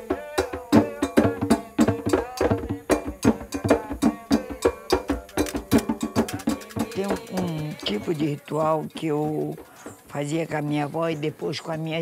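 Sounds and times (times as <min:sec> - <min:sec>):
hand drums playing rhythm: 0:00.0 - 0:10.6
voices singing a chant: 0:00.0 - 0:12.0.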